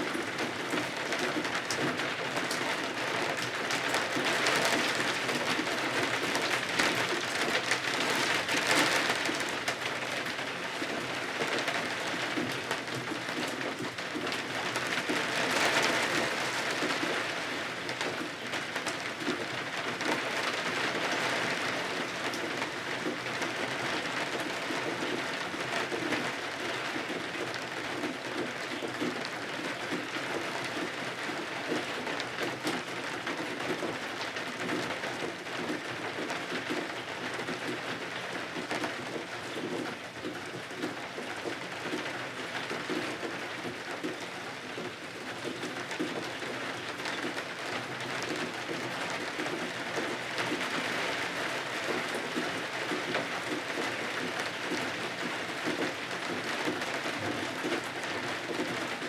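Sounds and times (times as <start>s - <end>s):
rain on windows: 0.0s - 59.0s.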